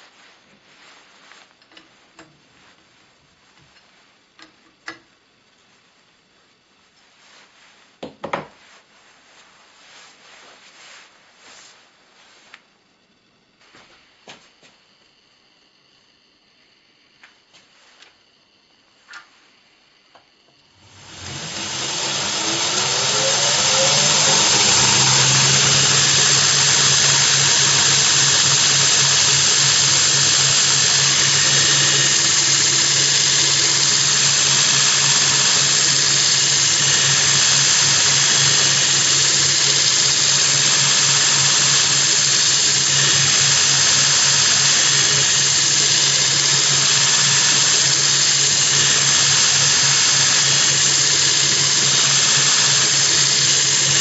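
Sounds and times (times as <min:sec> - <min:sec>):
grinding wheel whine and hiss: 0:00.0 - 0:54.0.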